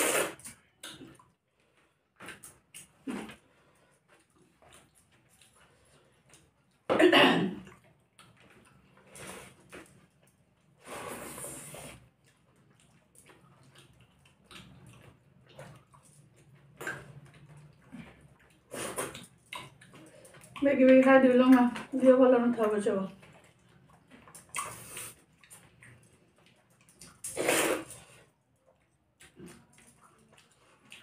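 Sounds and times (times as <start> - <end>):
wet squishes of eating by hand: 0.0 - 31.0.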